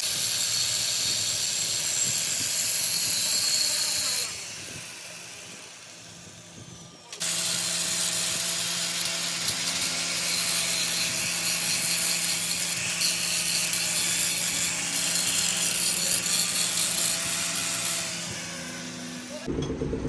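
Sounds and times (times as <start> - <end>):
power tool running: 0.0 - 20.0.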